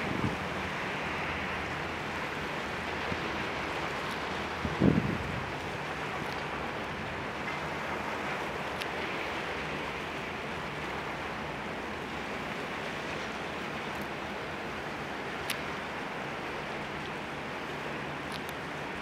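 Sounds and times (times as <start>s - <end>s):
hiss of boat wash: 0.0s - 19.0s
low diesel engine drone: 0.0s - 19.0s.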